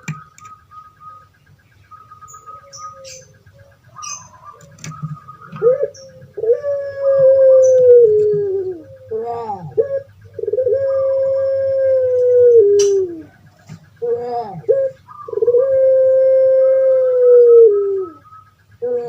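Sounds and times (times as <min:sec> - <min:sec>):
dove cooing: 0:00.0 - 0:19.0
faint steady hum: 0:00.0 - 0:19.0.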